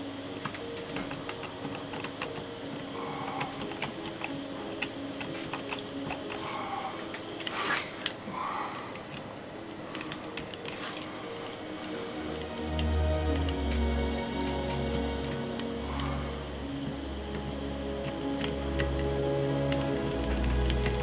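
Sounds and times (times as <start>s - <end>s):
tools clicking on metal connectors: 0.0s - 8.2s, 8.9s - 21.0s.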